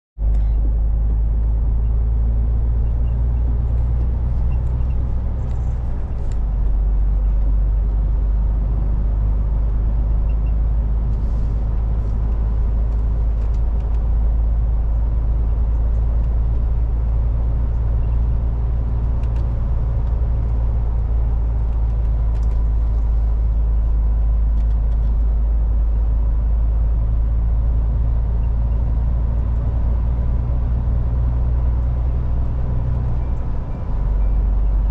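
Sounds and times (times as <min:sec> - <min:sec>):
truck diesel engine rumbling: 0:00.2 - 0:34.9.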